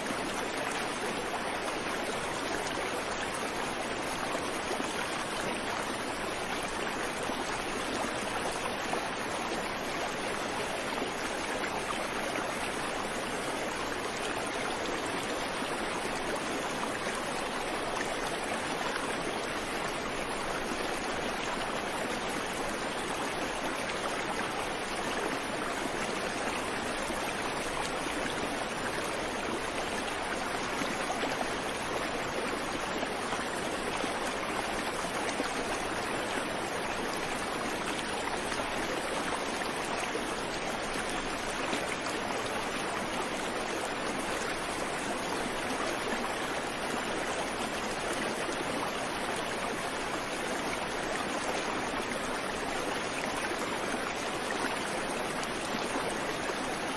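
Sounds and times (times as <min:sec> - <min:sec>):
creek water flowing over rocks: 0:00.0 - 0:56.9.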